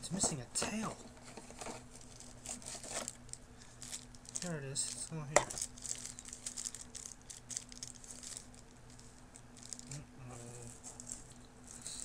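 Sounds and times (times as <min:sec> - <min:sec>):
plastic bag rustling and crinkling: 0:00.9 - 0:12.0.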